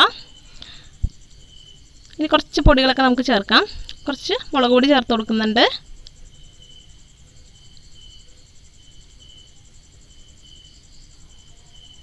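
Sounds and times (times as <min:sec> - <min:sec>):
insect chirps: 0:00.0 - 0:12.0
insect trilling: 0:00.0 - 0:12.0.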